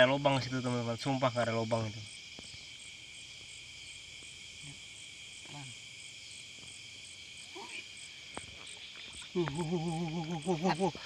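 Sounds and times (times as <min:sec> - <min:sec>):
insect chirps pulsing: 0:00.0 - 0:11.0
insects trilling: 0:00.0 - 0:11.0.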